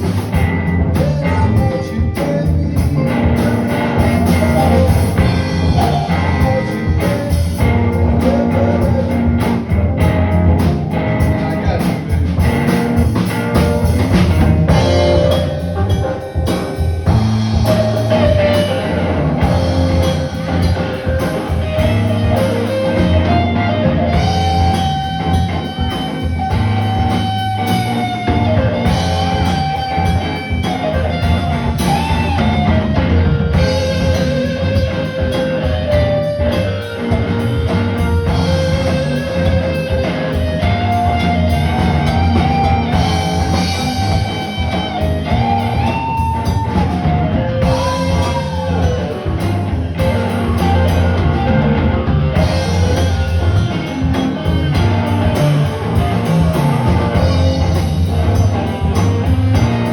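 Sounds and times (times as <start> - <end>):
drum kit beat: 0.0 - 59.9
electric guitar lead bending notes: 0.0 - 59.9.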